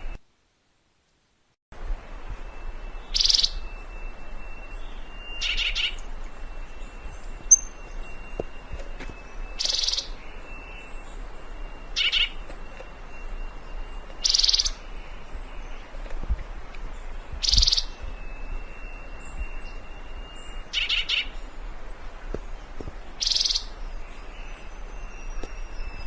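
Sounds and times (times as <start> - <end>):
faint high whine: 1.8 - 26.0
bird buzzy pulsed calls: 2.4 - 26.0.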